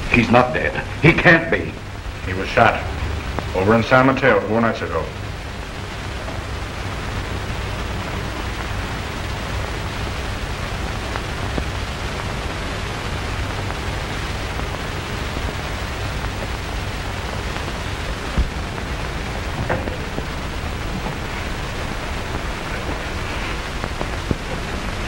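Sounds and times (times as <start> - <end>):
film soundtrack hiss and hum: 0.0 - 25.0.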